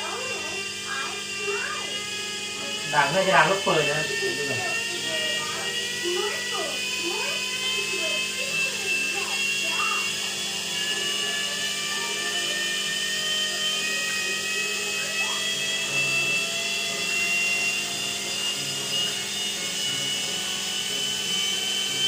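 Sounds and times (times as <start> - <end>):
washing machine motor whining: 0.0 - 22.0.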